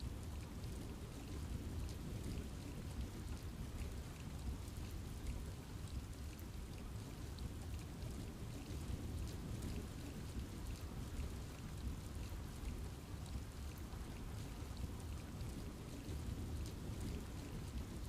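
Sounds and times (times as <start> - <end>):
rain on leaves: 0.0 - 18.0.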